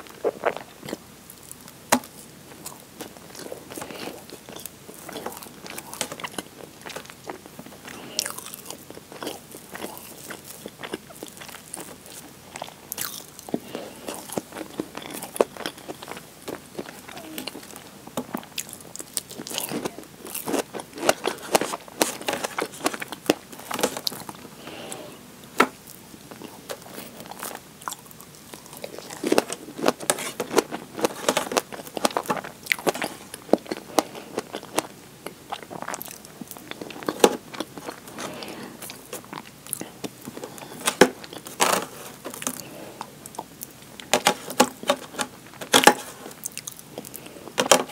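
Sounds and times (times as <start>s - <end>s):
soft chewing: 0.0s - 47.9s.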